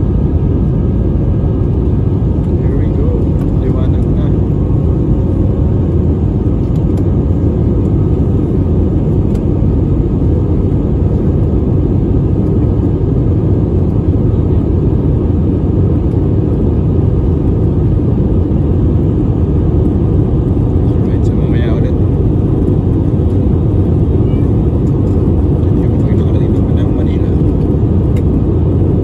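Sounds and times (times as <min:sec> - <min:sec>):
jet airliner cabin rumble: 0:00.0 - 0:29.0.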